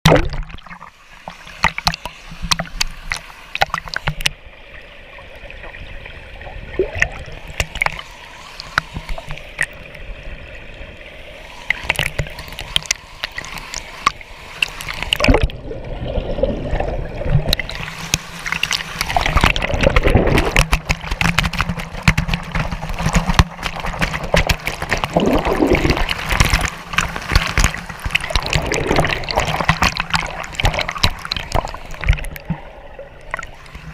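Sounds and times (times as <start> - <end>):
pool water splashing and gurgling: 0.0 - 33.9.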